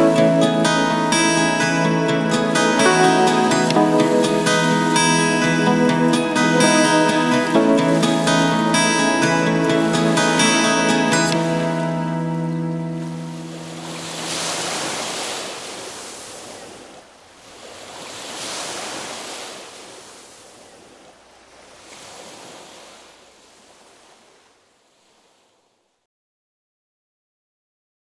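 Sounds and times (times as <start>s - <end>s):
ocean surf washing in: 0.0s - 25.8s.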